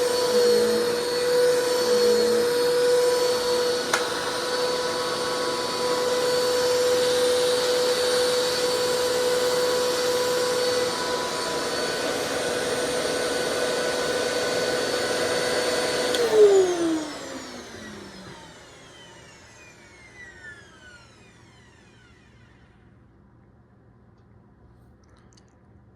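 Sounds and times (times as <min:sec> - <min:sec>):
vacuum motor winding down: 0:00.0 - 0:22.9
upright vacuum running: 0:00.0 - 0:23.0.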